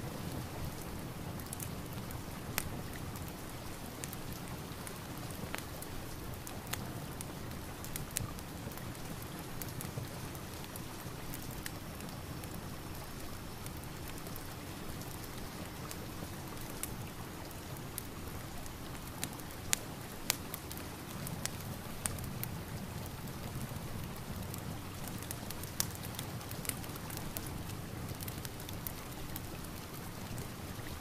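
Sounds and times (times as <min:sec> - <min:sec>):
steady rain: 0:00.0 - 0:31.0
wood fire crackling and popping: 0:00.0 - 0:31.0.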